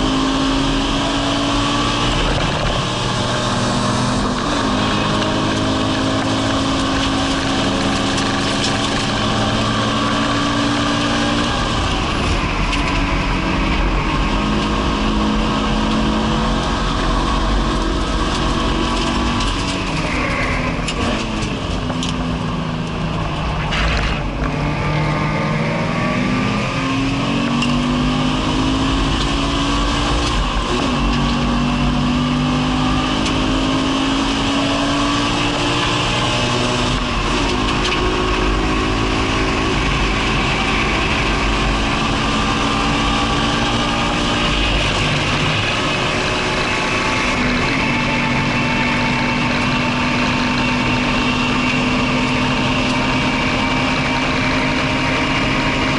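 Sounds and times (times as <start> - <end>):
car engine accelerating hard: 0.0 - 55.9
road and wind noise: 0.0 - 55.9.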